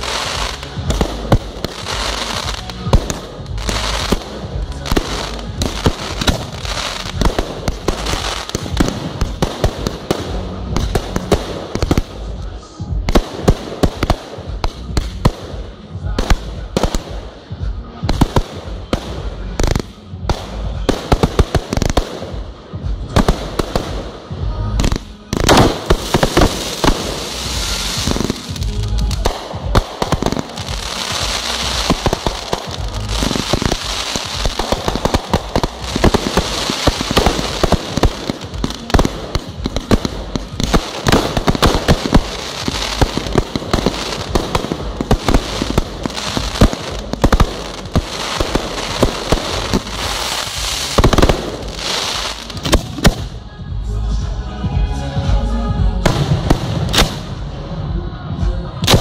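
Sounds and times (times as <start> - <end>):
fireworks crackling: 0.0 - 53.5, 56.0 - 57.5
fireworks launching and bursting: 0.0 - 53.5, 56.0 - 57.7, 58.8 - 59.0.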